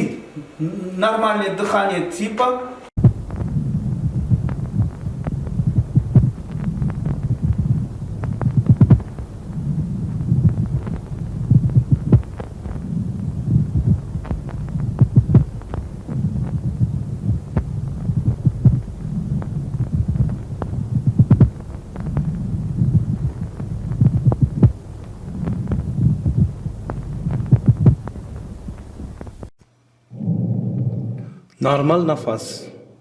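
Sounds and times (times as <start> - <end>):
heartbeat thumps: 3.0 - 29.6.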